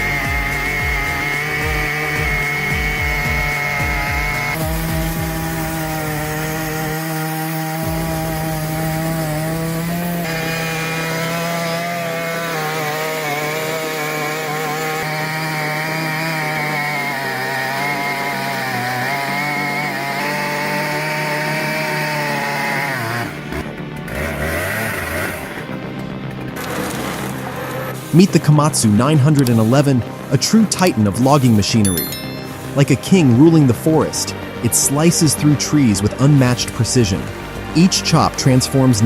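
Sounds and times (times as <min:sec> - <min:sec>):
chainsaw cutting a log: 0:00.0 - 0:39.0.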